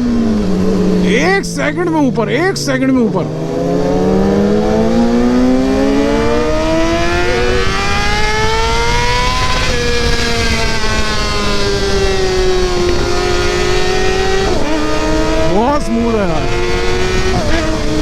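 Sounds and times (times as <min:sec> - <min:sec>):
motorcycle engine revving: 0:00.0 - 0:18.0
wind and road noise: 0:00.0 - 0:18.0.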